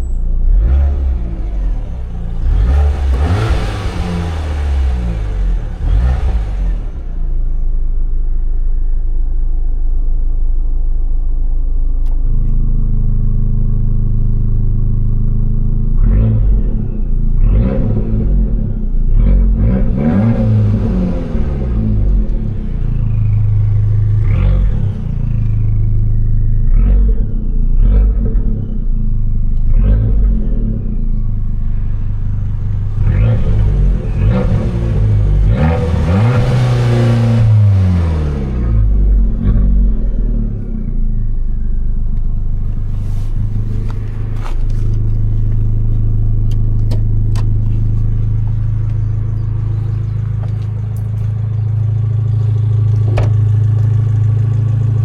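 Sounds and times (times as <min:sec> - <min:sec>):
car engine revving: 0:00.0 - 0:07.6, 0:12.0 - 0:55.0.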